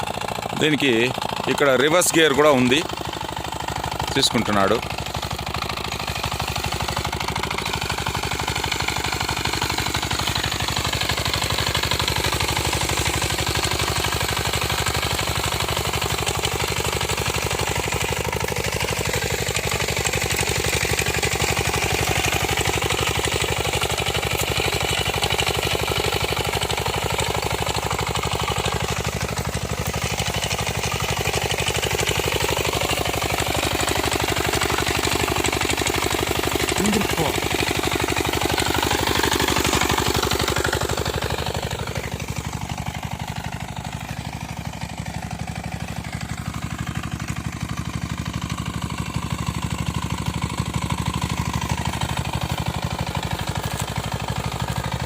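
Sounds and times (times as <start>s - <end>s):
small tractor engine running: 0.0s - 55.0s.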